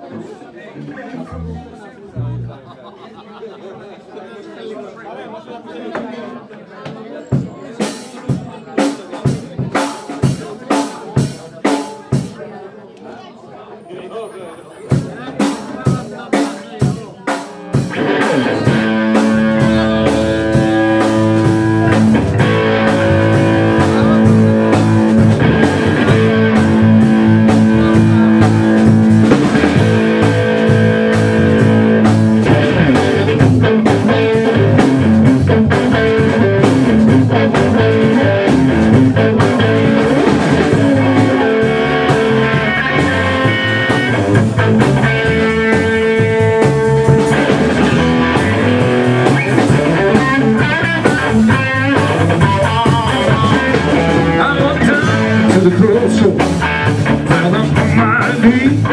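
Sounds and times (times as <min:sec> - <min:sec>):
live rock band playing: 0:01.2 - 0:02.6, 0:07.3 - 0:12.4, 0:14.9 - 0:58.9.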